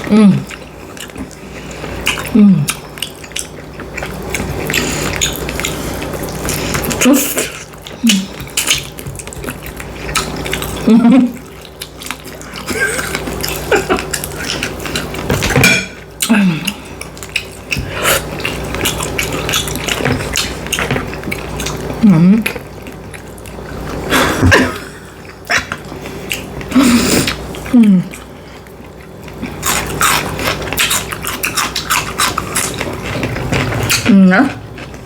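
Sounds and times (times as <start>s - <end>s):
chewing and wet mouth sounds: 0.0s - 35.0s.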